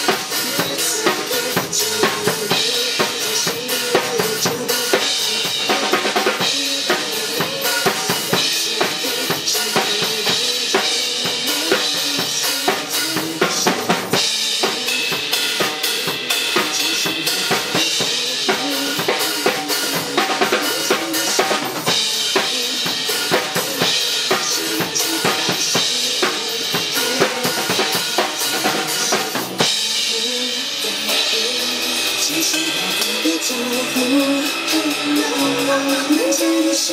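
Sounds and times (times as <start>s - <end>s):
drum kit playing a groove: 0.0s - 36.9s
recorded pop song: 0.0s - 36.9s.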